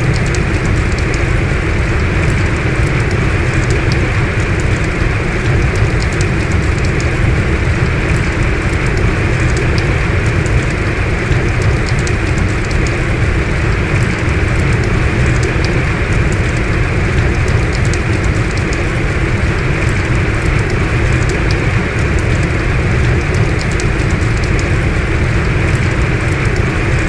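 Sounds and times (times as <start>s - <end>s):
heavy rain falling: 0.0s - 27.0s
raindrops ticking nearby: 0.0s - 27.0s.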